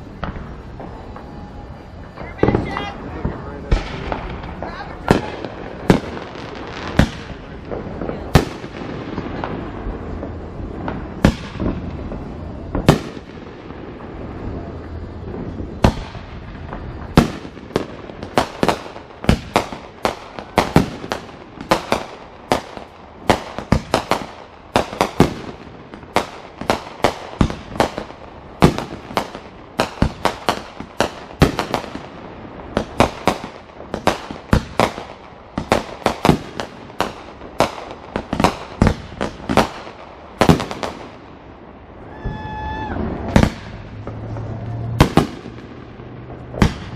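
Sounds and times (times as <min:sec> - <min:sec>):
fireworks banging: 0:00.0 - 0:46.9.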